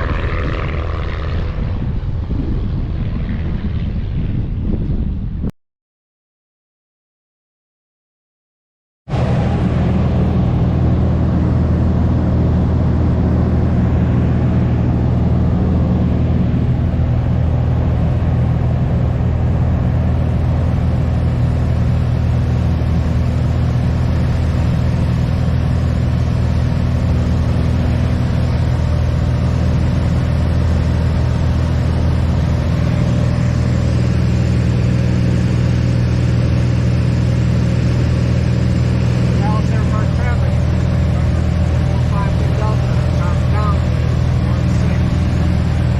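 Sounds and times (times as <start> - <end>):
propeller airplane engine droning: 0.0 - 5.5, 9.1 - 45.9.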